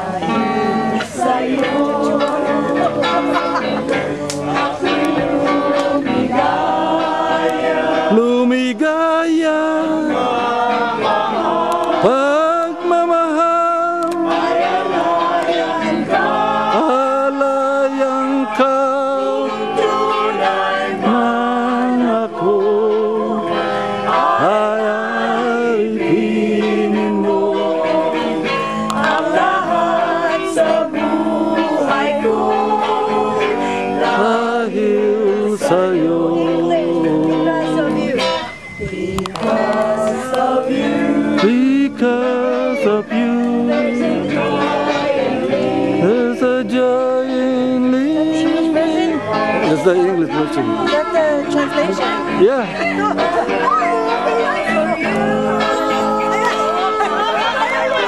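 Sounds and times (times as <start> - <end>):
several voices singing a song: 0.0 - 58.0.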